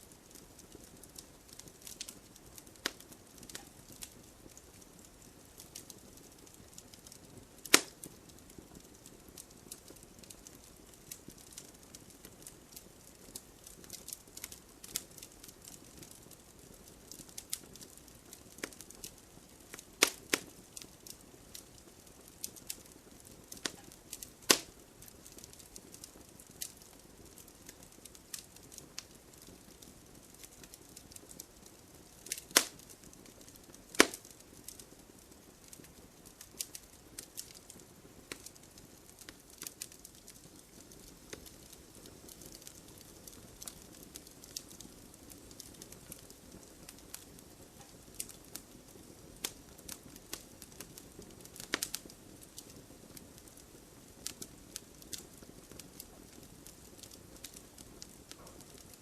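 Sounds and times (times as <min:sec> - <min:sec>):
hiss of flames: 0:00.0 - 0:59.0
logs crackling and popping: 0:00.0 - 0:59.0.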